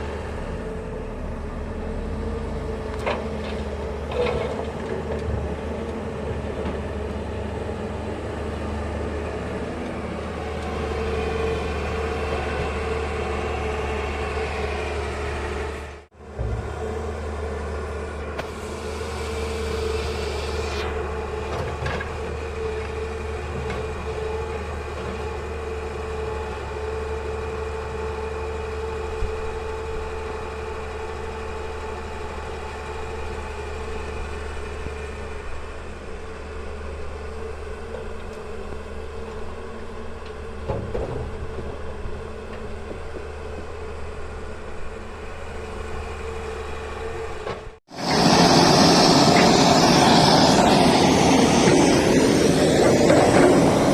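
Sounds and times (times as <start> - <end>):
excavator diesel engine droning: 0.0 - 53.9.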